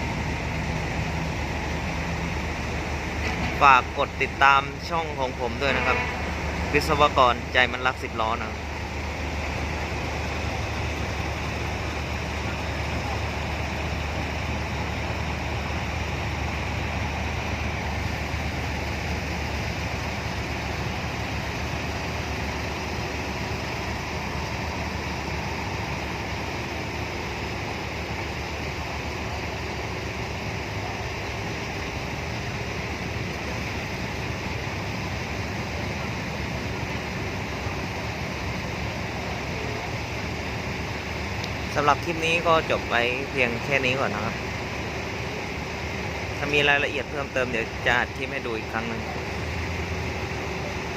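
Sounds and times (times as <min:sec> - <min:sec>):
outdoor background noise: 0:00.0 - 0:50.9.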